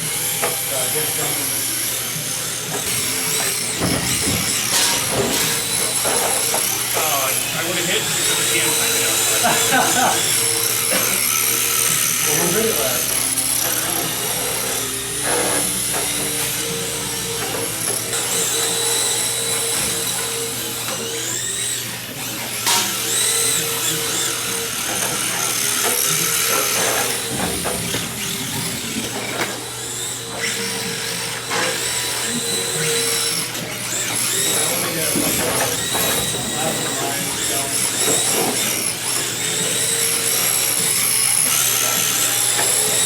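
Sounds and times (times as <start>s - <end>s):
electric motors whining: 0.0s - 43.0s.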